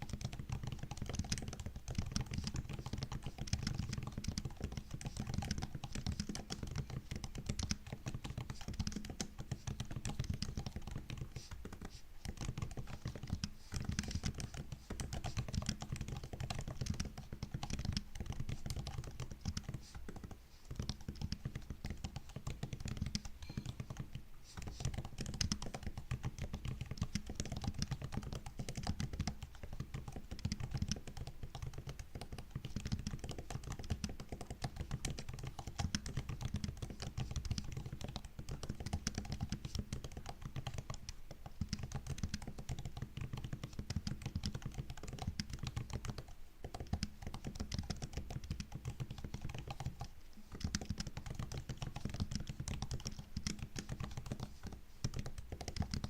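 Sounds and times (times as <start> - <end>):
fast typing on laptop keyboard: 0.0 - 56.0.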